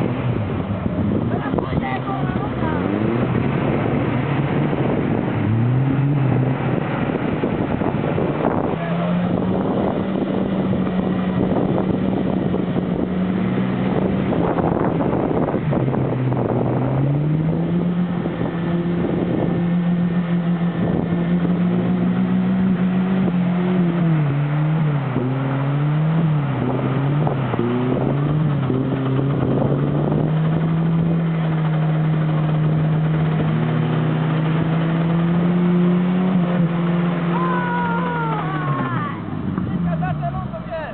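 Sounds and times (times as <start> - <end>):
off-road engine revving: 0.0 - 40.9
steady rushing noise: 0.0 - 40.9.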